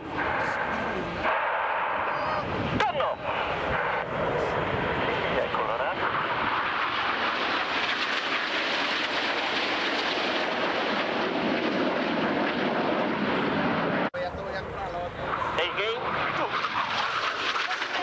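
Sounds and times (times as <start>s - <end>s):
jet aircraft flying overhead: 0.0s - 18.0s.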